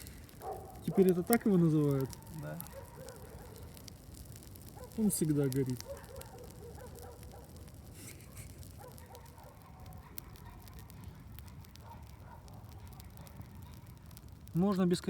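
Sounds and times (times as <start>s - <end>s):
bonfire crackling and popping: 0.0s - 15.0s
low steady rustle: 0.0s - 15.0s.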